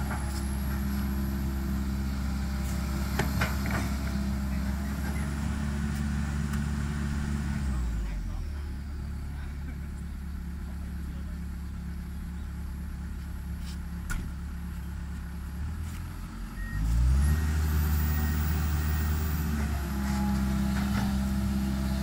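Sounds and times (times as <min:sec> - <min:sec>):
excavator diesel engine revving: 0:00.0 - 0:22.0.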